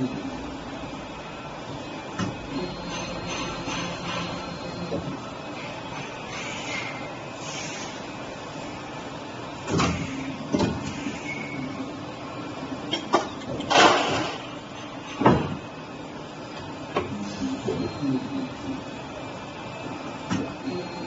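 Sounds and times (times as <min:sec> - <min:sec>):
injection moulding machine hum: 0:00.0 - 0:21.0.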